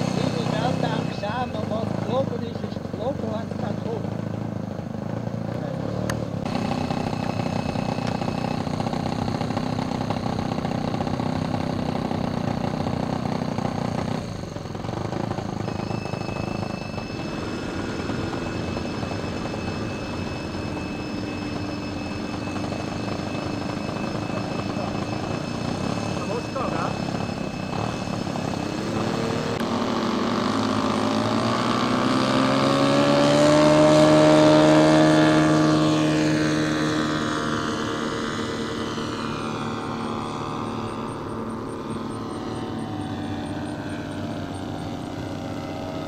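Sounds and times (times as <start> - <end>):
high whine: 0.0 - 46.0
model plane engine running: 0.0 - 46.0.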